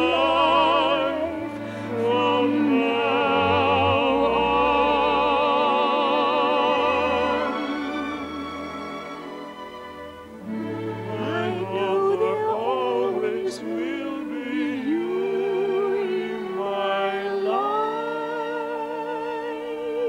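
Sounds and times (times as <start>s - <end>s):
slow orchestral melody: 0.0s - 20.0s.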